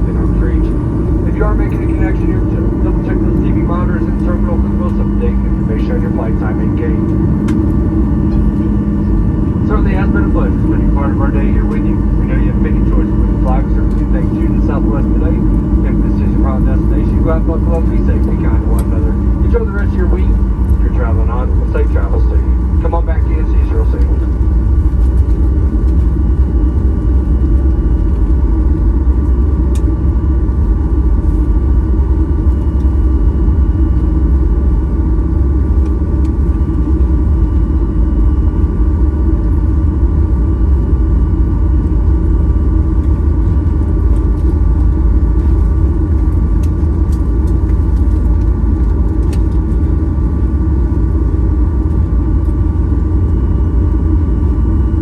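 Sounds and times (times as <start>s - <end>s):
airplane cabin low rumble: 0.0s - 55.0s
faint jet engine whine: 0.0s - 55.0s.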